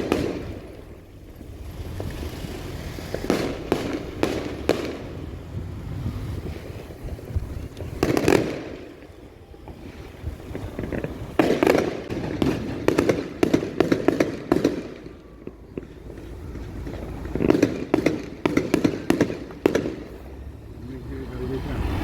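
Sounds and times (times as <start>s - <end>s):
fireworks exploding: 0.0s - 22.0s.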